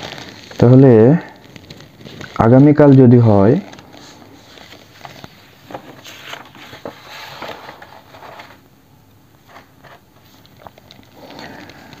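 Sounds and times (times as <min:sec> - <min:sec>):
paper page rustling: 0:00.0 - 0:08.7, 0:09.3 - 0:12.0.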